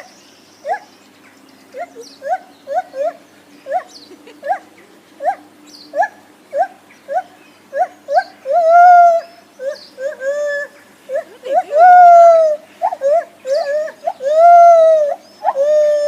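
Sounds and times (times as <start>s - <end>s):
gibbon hooting calls: 1.7s - 16.0s.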